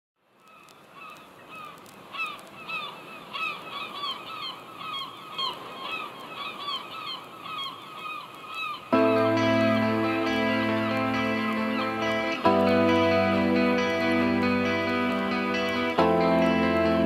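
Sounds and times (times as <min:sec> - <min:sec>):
birds honking calls: 0:00.5 - 0:17.0
surf hissing: 0:00.6 - 0:17.0.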